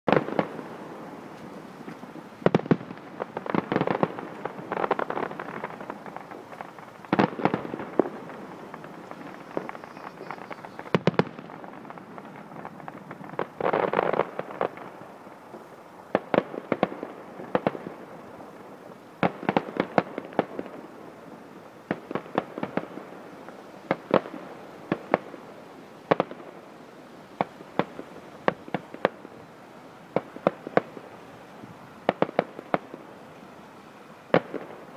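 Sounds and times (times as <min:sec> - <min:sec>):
fireworks bangs and crackling: 0:00.1 - 0:34.9.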